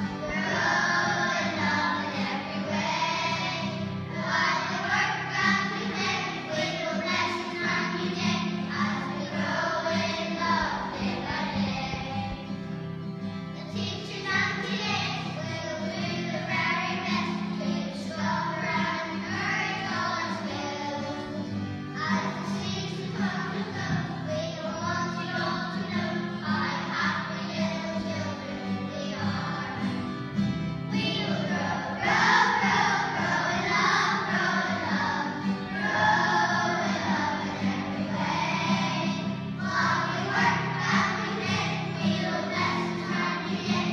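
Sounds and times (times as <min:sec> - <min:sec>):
children singing together: 0:00.0 - 0:12.9, 0:13.5 - 0:43.9.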